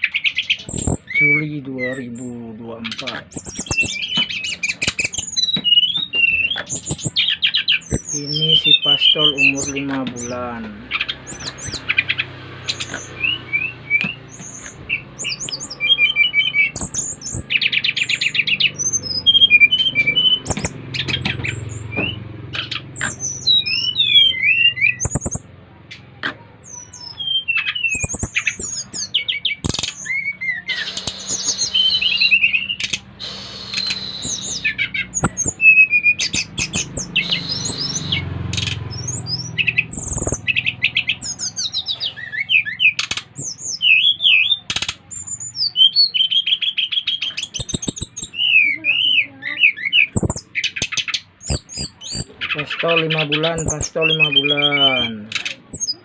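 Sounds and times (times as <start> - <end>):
sharp bird clicks: 0.0 - 48.7, 49.6 - 54.4, 55.2 - 56.0
songbirds singing: 0.0 - 56.0.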